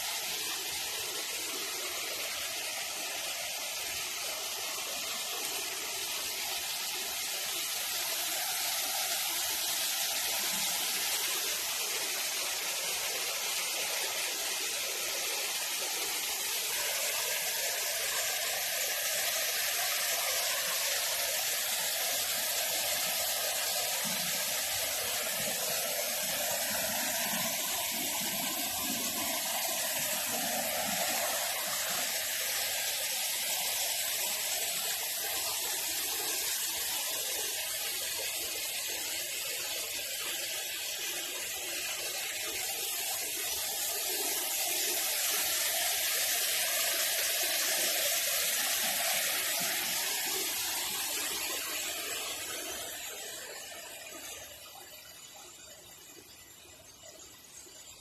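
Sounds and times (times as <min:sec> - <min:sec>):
rushing water hiss: 0:00.0 - 0:58.0.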